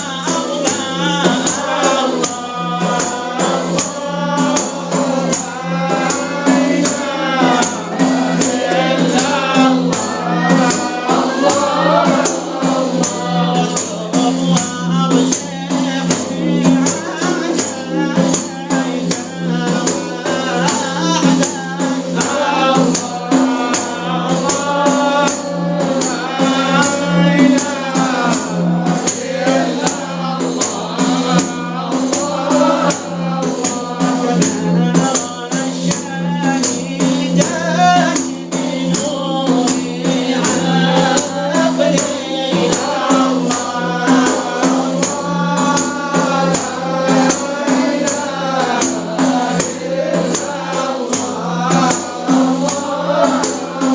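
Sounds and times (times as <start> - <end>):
hand-struck frame drum beat: 0.0 - 53.9
voices singing a chant: 0.0 - 53.9.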